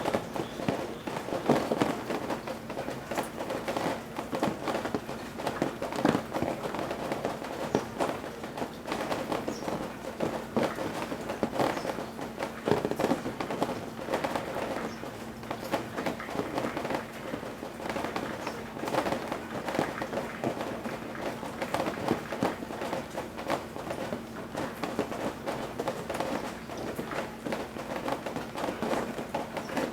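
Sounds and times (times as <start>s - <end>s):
rain dripping off eaves: 0.0s - 29.9s.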